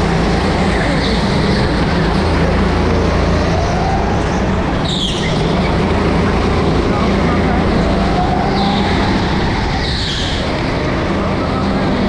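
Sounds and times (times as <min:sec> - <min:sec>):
go-kart engine drone: 0:00.0 - 0:12.0.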